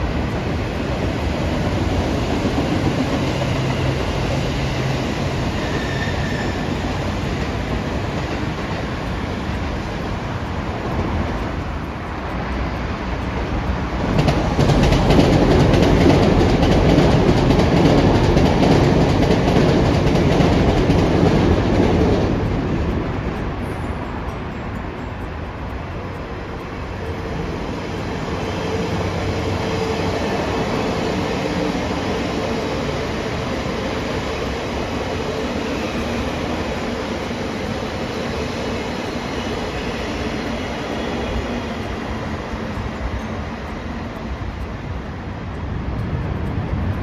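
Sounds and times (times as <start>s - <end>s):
train rumbling past: 0.0s - 47.0s
wheels clicking over track: 0.0s - 47.0s.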